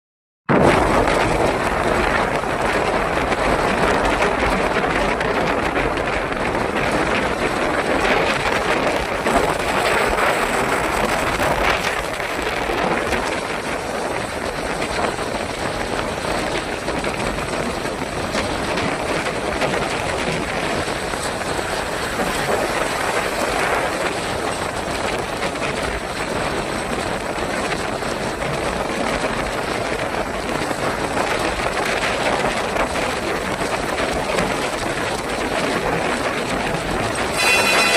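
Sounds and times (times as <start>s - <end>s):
steady rain falling: 0.5s - 37.9s.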